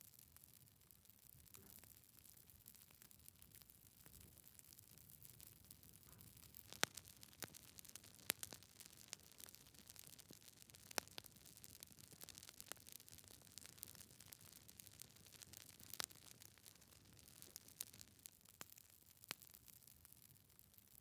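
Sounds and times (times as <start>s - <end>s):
logs crackling in a fireplace: 0.2s - 21.0s.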